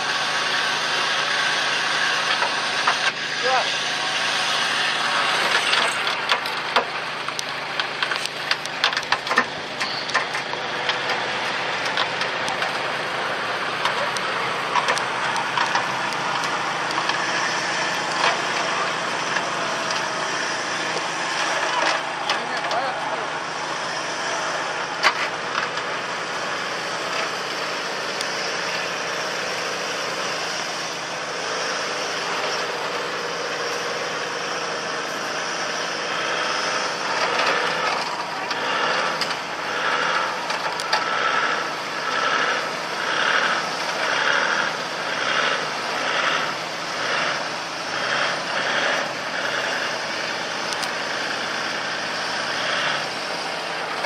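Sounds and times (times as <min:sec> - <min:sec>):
engine straining under load: 0:00.0 - 0:54.0
wheels churning mud and water: 0:00.0 - 0:54.0.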